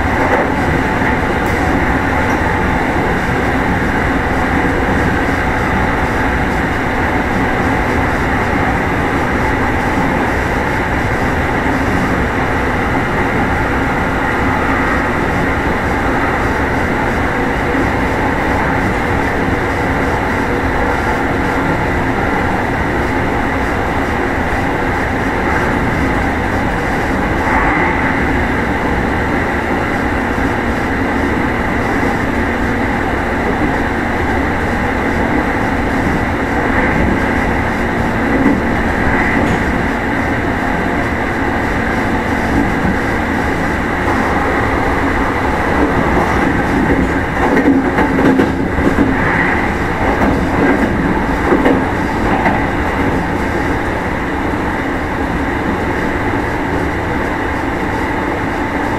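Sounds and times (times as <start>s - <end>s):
constant hum: 0.0s - 58.9s
train wheels rumbling on rail: 0.0s - 58.9s.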